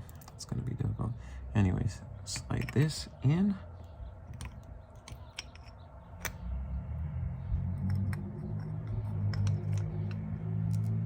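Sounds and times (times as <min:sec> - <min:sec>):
low hum: 0:02.0 - 0:11.0.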